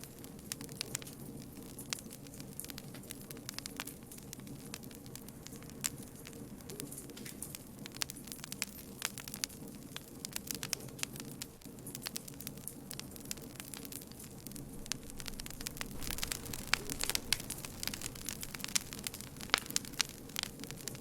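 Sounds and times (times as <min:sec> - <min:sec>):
burning wood popping and snapping: 0:00.0 - 0:21.0
hiss of flames: 0:00.0 - 0:21.0.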